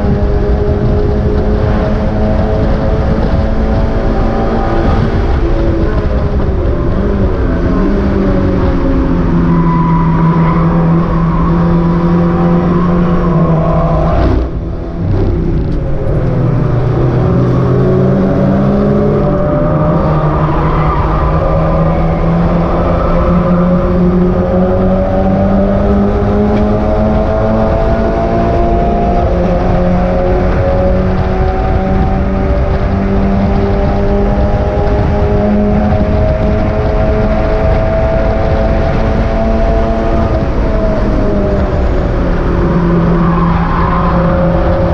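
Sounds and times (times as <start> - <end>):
race car engine running hard: 0.0 - 44.9.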